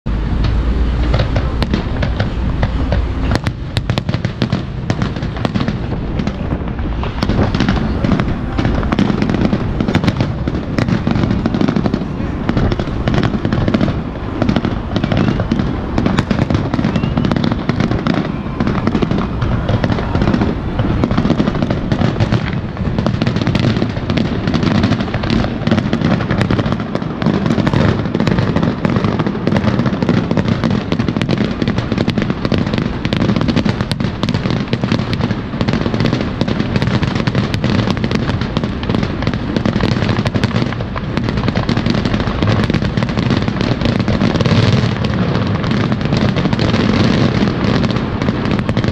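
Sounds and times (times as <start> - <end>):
firework bangs and crackle: 0.0 - 48.9.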